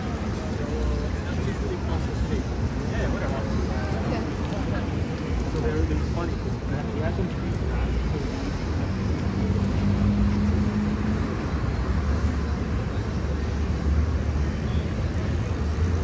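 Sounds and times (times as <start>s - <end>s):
vehicle engines humming: 0.0s - 16.0s.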